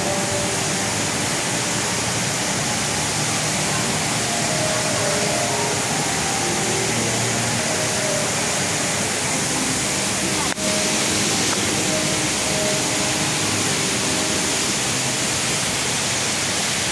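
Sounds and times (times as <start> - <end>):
indoor waterfall pouring: 0.0 - 16.9.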